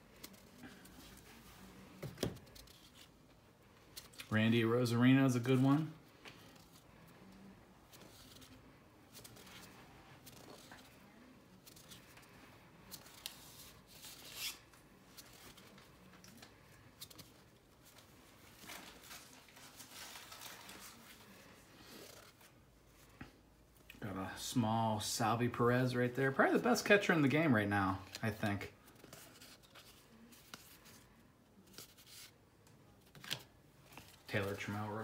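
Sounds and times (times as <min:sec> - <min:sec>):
trading cards rustling and sliding: 0:00.0 - 0:22.6, 0:27.9 - 0:32.4, 0:33.0 - 0:35.0.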